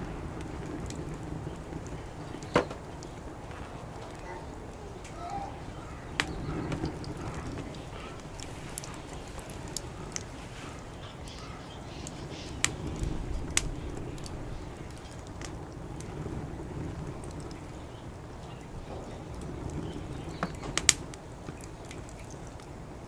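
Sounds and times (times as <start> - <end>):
low rumble: 0.0 - 20.8
wood fire crackling: 0.0 - 23.0.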